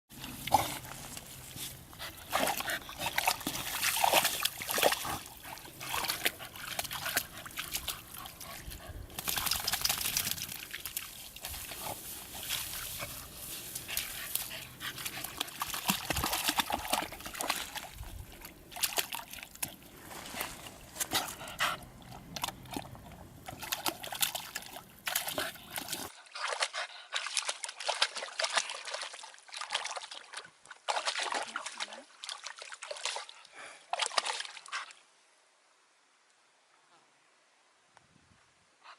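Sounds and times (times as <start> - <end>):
puppy splashing in water: 0.1 - 35.0.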